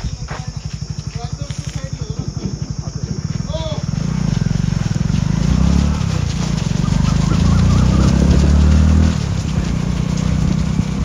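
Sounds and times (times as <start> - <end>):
runners' feet on road: 0.0 - 11.0
vehicle engine running: 0.0 - 11.0.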